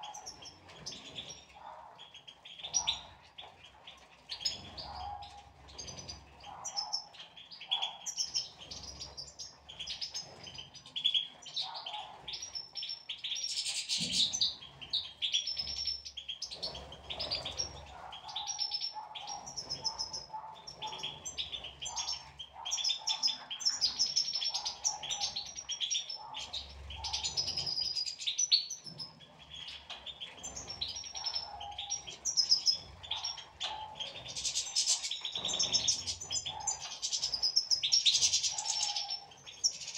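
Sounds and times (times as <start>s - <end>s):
goldfinches twittering and chirping: 0.0s - 39.9s.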